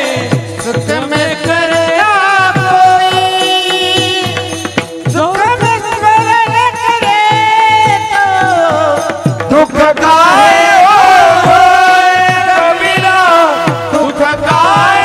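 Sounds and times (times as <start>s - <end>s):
drum beat: 0.0s - 15.0s
men singing in unison: 0.0s - 15.0s.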